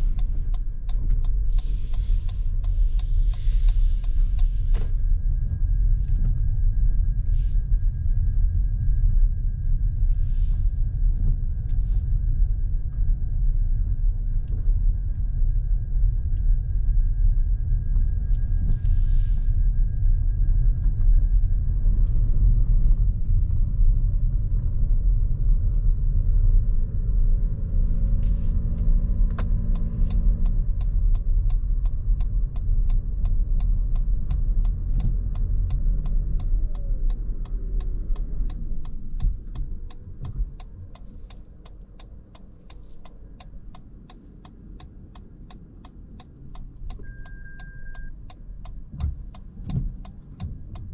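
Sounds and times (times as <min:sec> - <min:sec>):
road and tyre rumble in car: 0:00.0 - 0:50.9.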